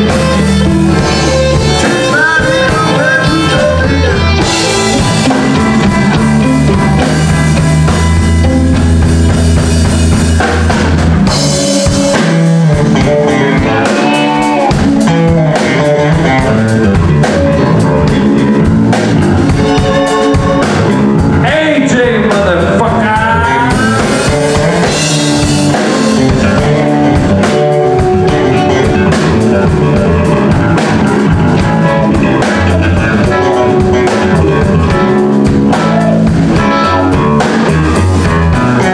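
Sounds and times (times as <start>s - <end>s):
blues band playing: 0.0s - 38.9s.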